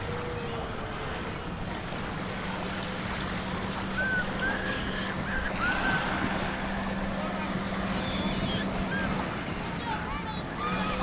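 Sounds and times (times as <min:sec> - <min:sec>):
boat engine humming: 0:00.0 - 0:11.0
water rushing: 0:00.0 - 0:11.0.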